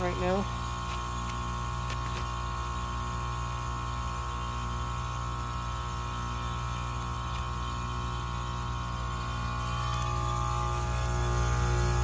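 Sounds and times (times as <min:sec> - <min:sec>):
compressor hum: 0:00.0 - 0:12.0.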